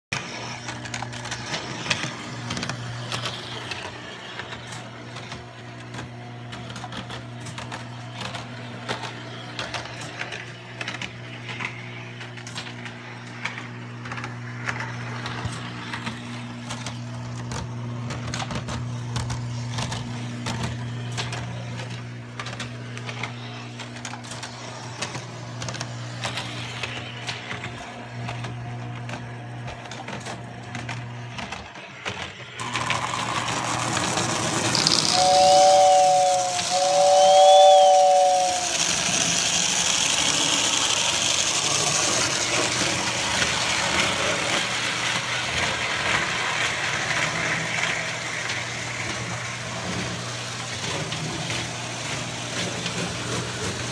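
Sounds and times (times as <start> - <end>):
electric hum of toy train: 0.2 - 53.9
toy train wheels clicking on rails: 0.2 - 53.9.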